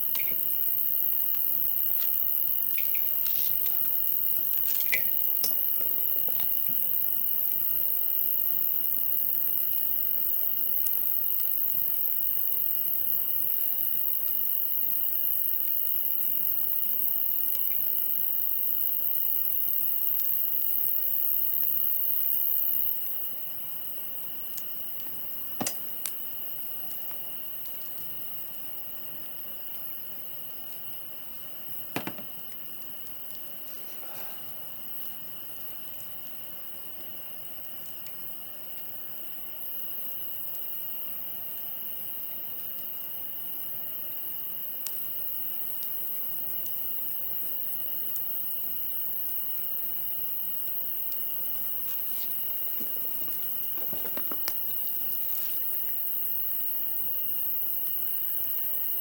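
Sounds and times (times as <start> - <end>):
campfire hissing and crackling: 0.0 - 59.0
high insect trill: 0.0 - 59.0.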